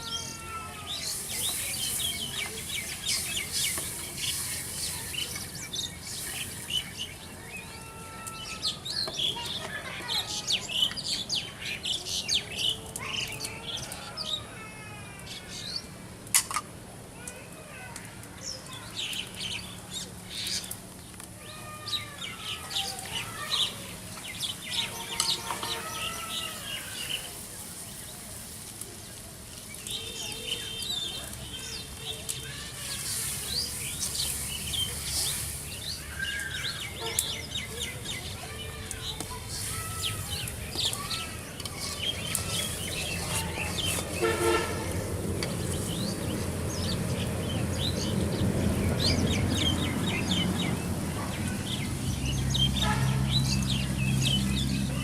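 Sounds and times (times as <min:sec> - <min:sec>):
birds chirping: 0:00.0 - 0:16.0, 0:17.2 - 0:55.0.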